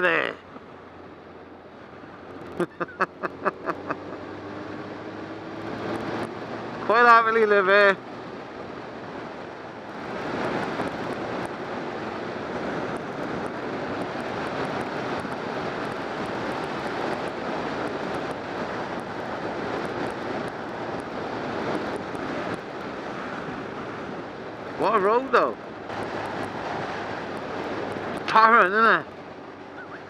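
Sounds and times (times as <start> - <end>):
motorcycle engine at road speed: 0.0 - 30.0
wind rush: 0.0 - 30.0.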